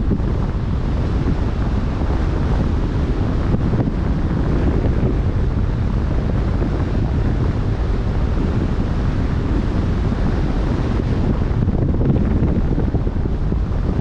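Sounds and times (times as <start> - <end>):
choppy waves washing: 0.0 - 14.0
wind buffeting microphone: 0.0 - 14.0.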